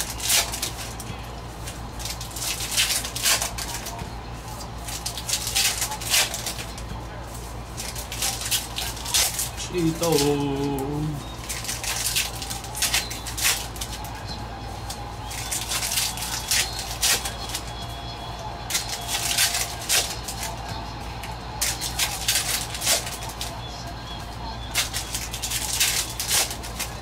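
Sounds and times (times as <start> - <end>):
wrappers and cards crackling: 0.0 - 27.0.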